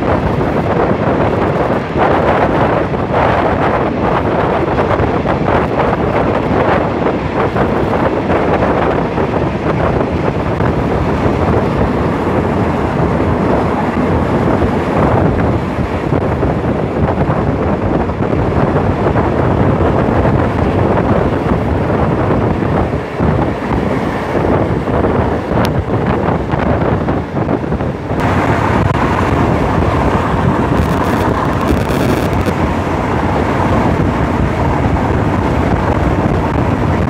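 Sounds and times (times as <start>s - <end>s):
train running noise: 0.0s - 37.0s
wind buffeting microphone: 0.0s - 37.0s.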